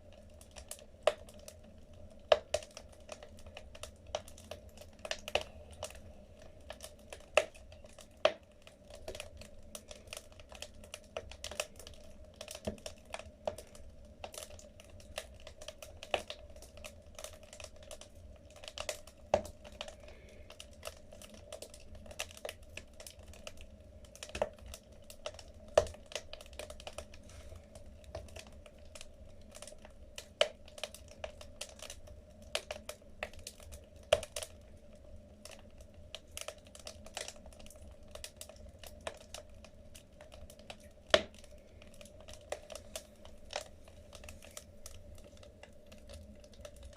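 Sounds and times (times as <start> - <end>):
low steady hum: 0.0 - 46.9
wood fire crackling: 0.0 - 46.9.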